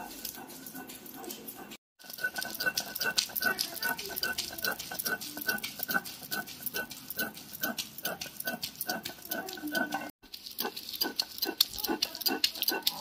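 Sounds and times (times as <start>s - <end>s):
stone grinding on stone slab: 2.0s - 13.0s.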